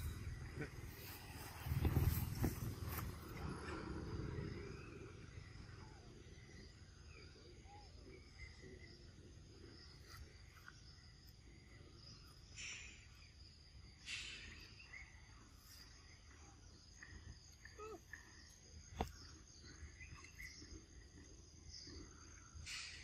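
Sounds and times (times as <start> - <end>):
insect chirring: 4.3 - 23.0.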